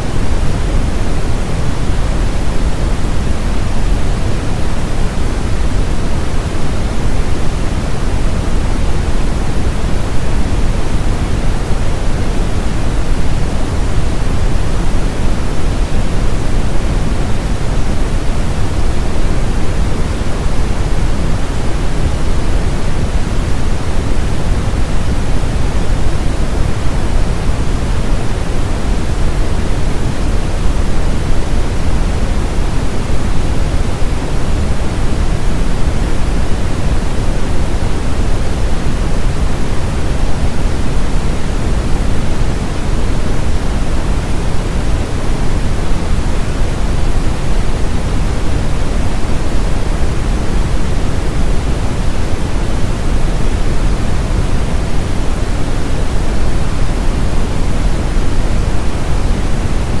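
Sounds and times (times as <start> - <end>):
brown noise hiss: 0.0 - 60.0.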